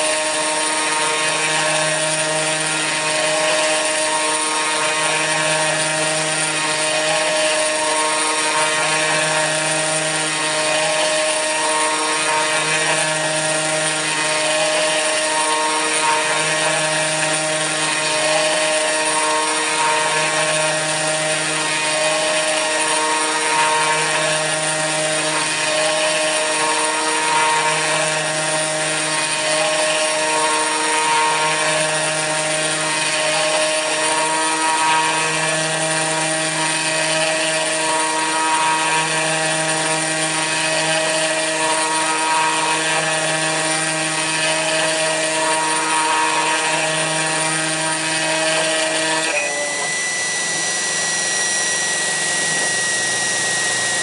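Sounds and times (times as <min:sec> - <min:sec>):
router spinning at high speed: 0:00.0 - 0:54.0.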